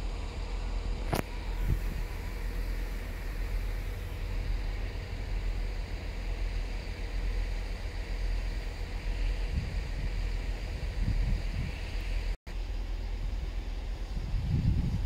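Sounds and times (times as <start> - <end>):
wind buffeting microphone: 0.0 - 12.4, 13.0 - 15.0
train low rumble: 0.0 - 15.0.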